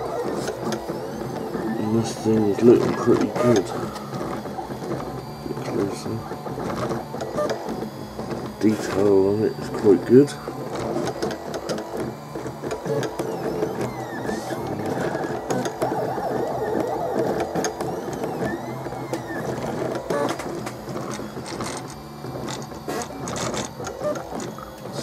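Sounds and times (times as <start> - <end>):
printer frame rattling: 0.0 - 25.0
stepper motor whine: 0.0 - 25.0.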